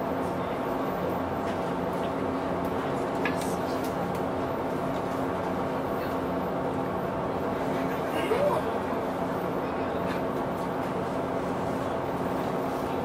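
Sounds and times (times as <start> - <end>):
boat engines humming: 0.0 - 13.0.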